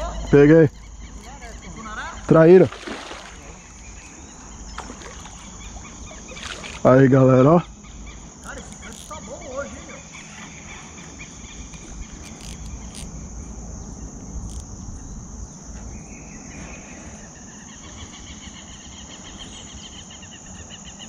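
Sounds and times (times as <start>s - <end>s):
crickets chirring: 0.0s - 21.0s
pulsing insect call: 0.0s - 21.0s.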